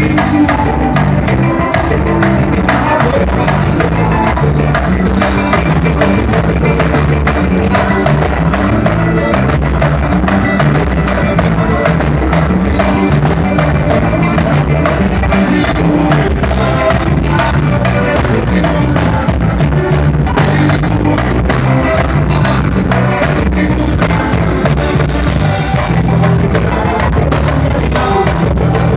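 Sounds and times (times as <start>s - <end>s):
drums: 0.0s - 28.9s
live band music: 0.0s - 28.9s
man singing: 0.0s - 28.9s.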